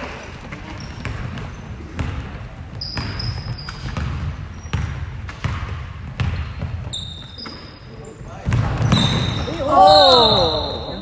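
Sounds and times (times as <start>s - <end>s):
ball bouncing on gym floor: 0.0s - 10.7s
sneakers squeaking on court: 0.0s - 11.0s.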